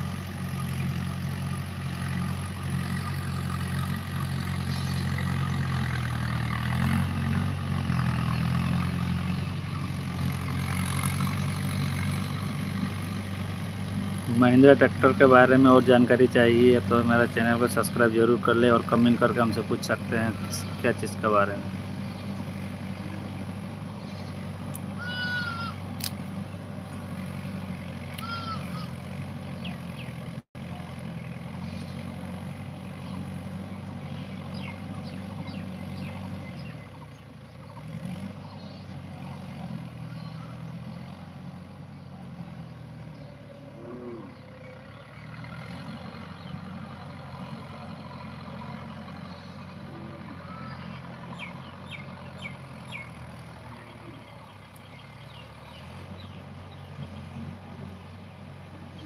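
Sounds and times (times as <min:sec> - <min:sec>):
distant tractor engine drone: 0:00.0 - 0:59.0.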